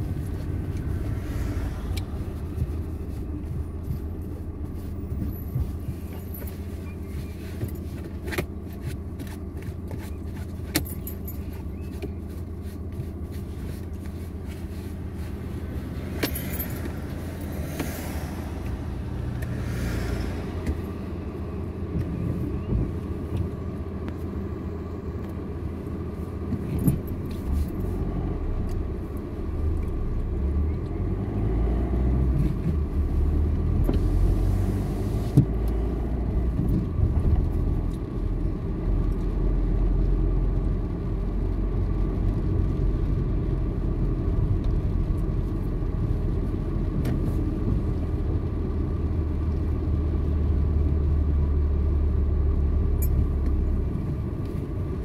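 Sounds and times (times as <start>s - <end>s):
car cabin engine and road rumble: 0.0s - 55.0s.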